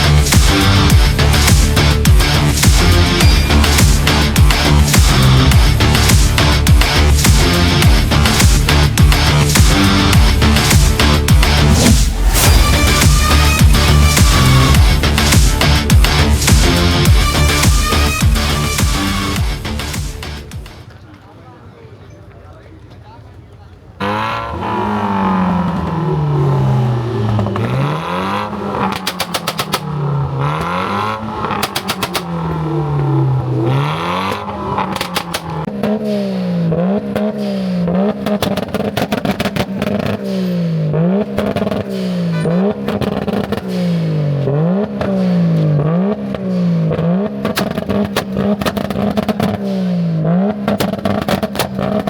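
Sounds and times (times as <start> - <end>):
car engine revving: 0.0 - 21.0, 23.9 - 52.0
exhaust crackles: 0.0 - 52.0.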